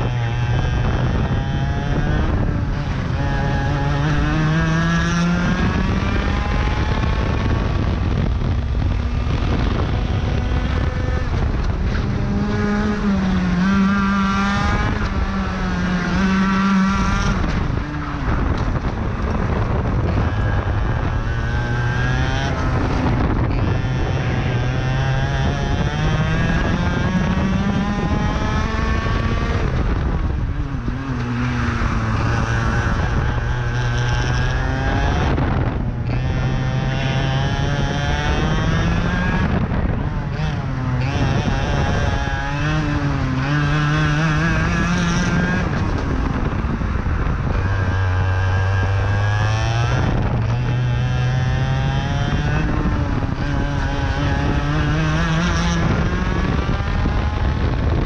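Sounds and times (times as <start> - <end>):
kart engine accelerating: 0.0 - 58.0.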